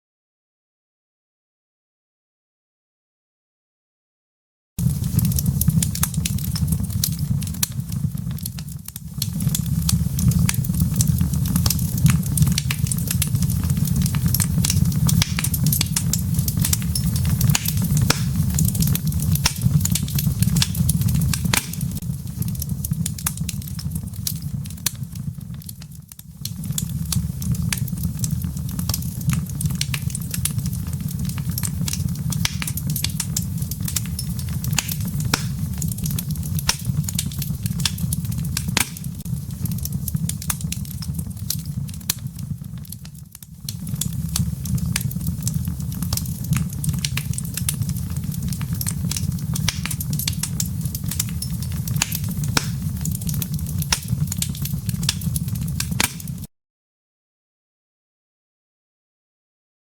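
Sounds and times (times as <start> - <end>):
low rumble of flames: 4.8 - 56.5
wood fire crackling and popping: 4.8 - 56.5.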